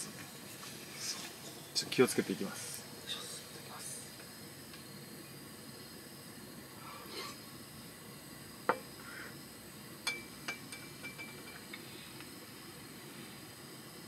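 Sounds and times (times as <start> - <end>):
low steady hiss: 0.0 - 14.0.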